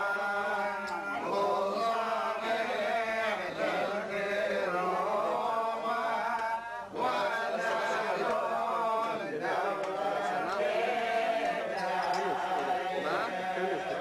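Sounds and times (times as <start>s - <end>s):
men chanting prayers: 0.0s - 14.0s.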